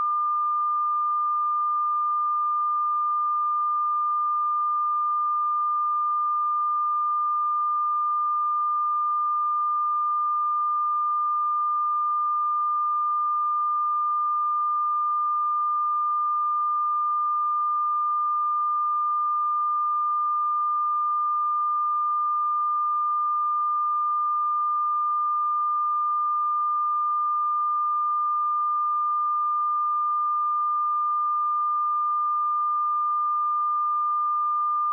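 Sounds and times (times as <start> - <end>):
sine-wave test tone: 0.0 - 34.9.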